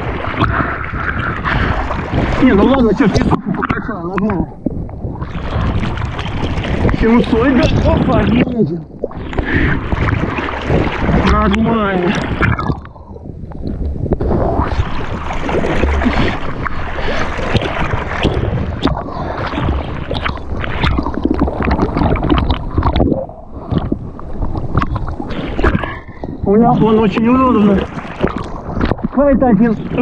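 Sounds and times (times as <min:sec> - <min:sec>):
water splashing and sloshing: 0:00.0 - 0:30.0
wind rumbling on microphone: 0:00.0 - 0:30.0.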